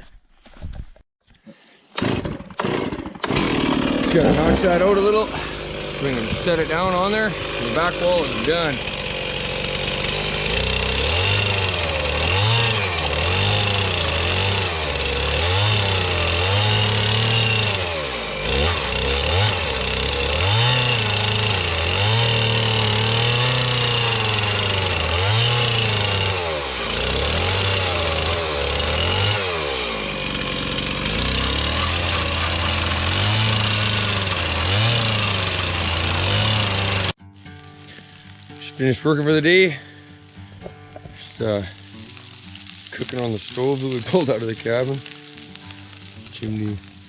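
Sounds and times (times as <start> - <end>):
small gasoline engine revving: 2.0 - 37.2, 41.3 - 47.0.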